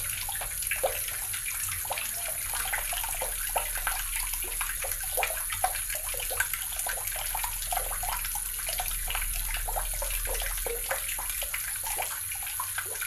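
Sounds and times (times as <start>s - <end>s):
tap water splashing into basin: 0.0s - 13.0s.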